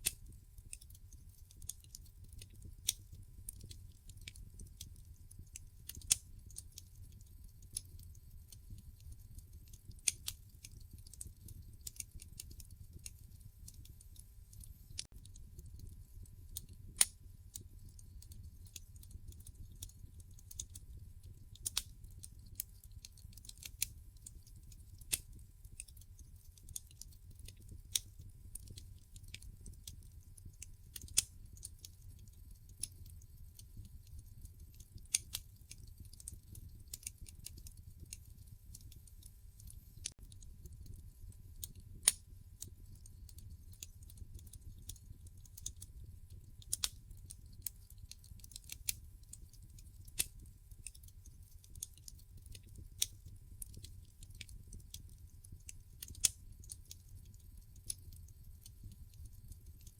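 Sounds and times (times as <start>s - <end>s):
low rumble of burning logs: 0.0s - 59.9s
wood fire crackling: 0.0s - 59.9s.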